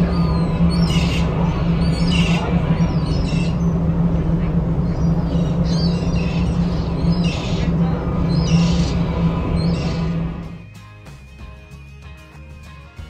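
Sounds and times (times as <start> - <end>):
gulls calling: 0.0 - 10.7
ferry engine humming: 0.0 - 13.0.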